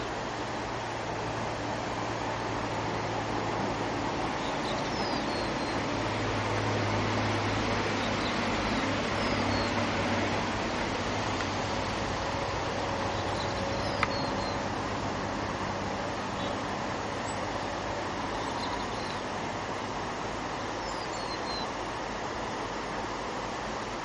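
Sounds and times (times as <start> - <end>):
river rapids roaring: 0.0 - 24.0.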